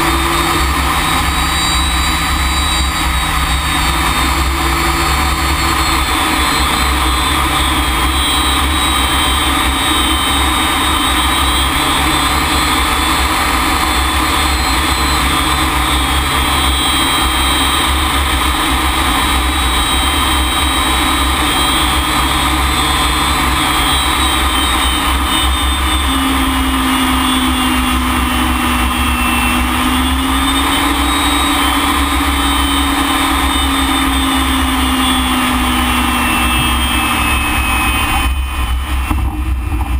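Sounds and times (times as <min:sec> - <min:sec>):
jet engine rush and whine: 0:00.0 - 0:39.9.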